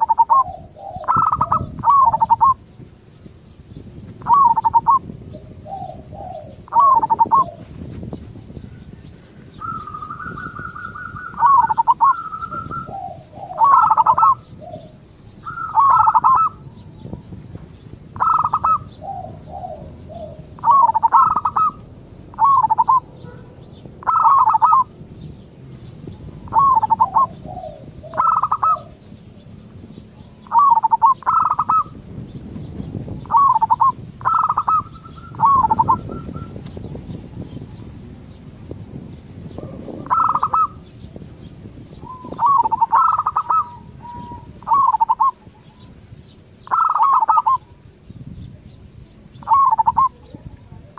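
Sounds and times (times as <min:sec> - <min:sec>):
doves cooing: 0:00.0 - 0:48.0, 0:48.6 - 0:50.9.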